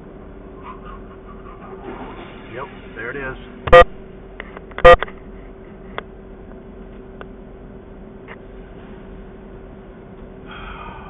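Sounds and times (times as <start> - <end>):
vehicle idling inside cabin: 0.0 - 11.0.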